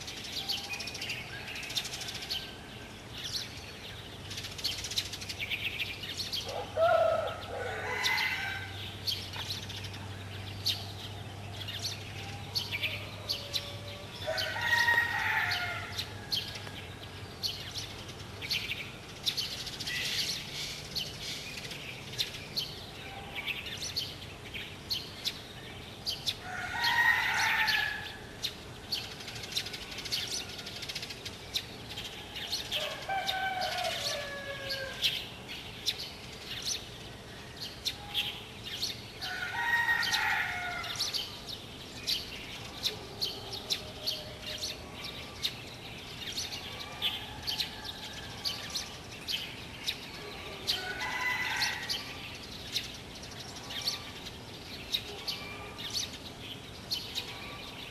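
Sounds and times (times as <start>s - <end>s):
birds chirping: 0.0s - 57.9s
longer bird calls: 0.0s - 57.9s.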